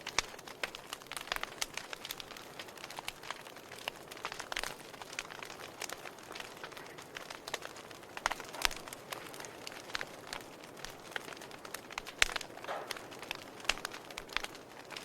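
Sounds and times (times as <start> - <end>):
flames hissing: 0.0 - 15.0
logs crackling and popping: 0.0 - 15.0.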